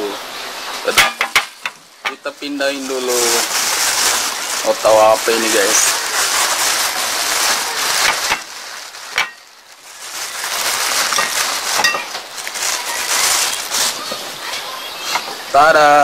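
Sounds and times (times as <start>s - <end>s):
plastic bag rustling and crinkling: 0.8s - 16.0s.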